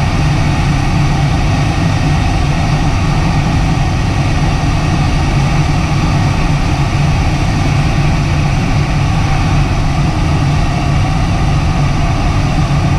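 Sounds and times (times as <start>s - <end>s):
deep rush of air in cockpit: 0.0s - 12.9s.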